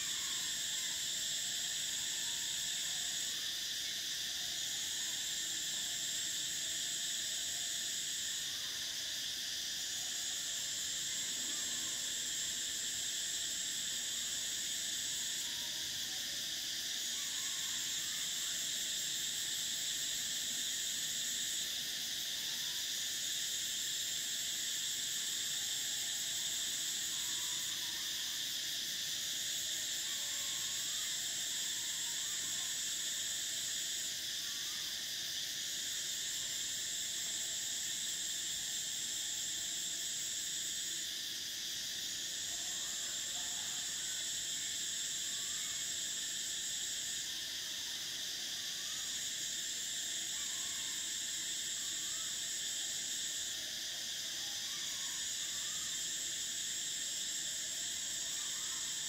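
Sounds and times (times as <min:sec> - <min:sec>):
cicadas buzzing in chorus: 0:00.0 - 0:59.0
shrill insect trill: 0:00.0 - 0:59.0.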